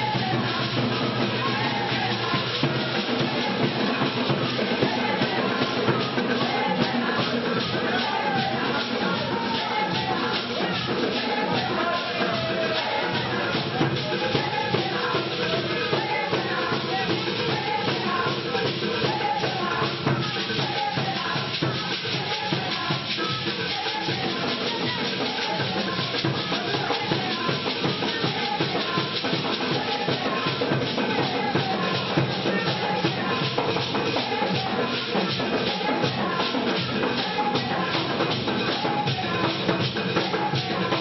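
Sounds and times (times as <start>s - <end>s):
drums: 0.0s - 41.0s
shaken rattles: 0.0s - 41.0s.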